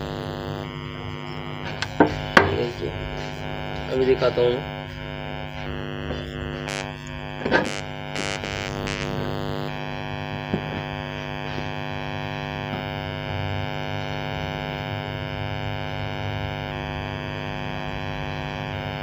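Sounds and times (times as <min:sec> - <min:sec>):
speaker mains hum: 0:00.0 - 0:19.0.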